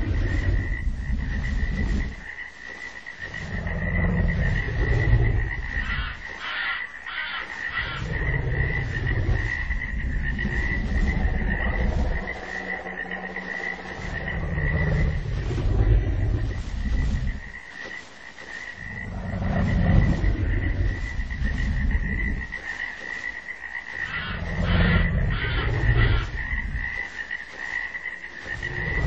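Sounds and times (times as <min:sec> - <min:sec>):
deep creature growls: 0:00.0 - 0:02.5, 0:03.2 - 0:06.4, 0:07.6 - 0:17.8, 0:18.7 - 0:29.0.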